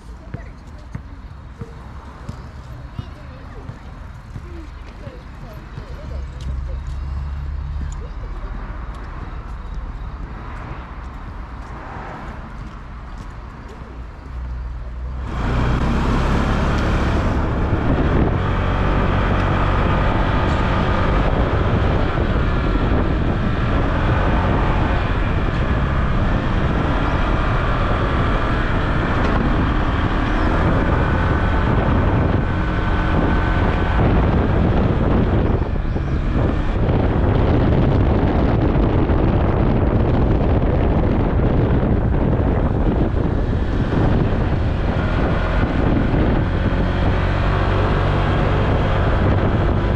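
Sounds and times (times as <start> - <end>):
wind noise on microphone: 0.0 - 49.9.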